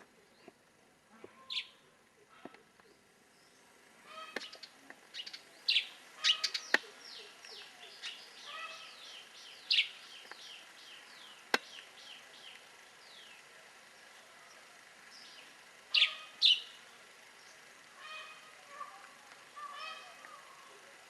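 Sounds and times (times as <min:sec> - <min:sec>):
wild birds calling: 0:00.0 - 0:21.0.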